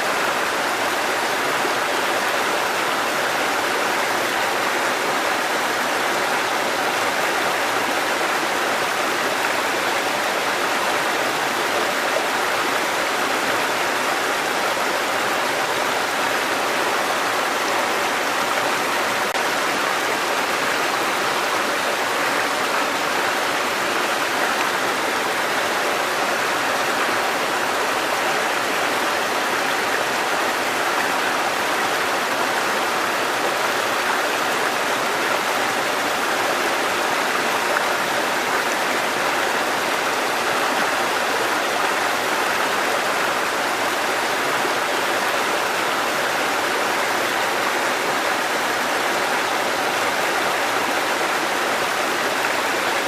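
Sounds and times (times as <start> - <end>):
stream cascading over rocks: 0.0 - 53.0.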